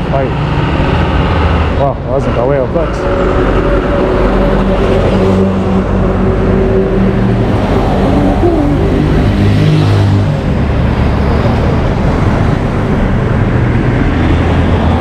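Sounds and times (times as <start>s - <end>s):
road noise: 0.0s - 15.0s
vehicle engines running: 0.0s - 15.0s.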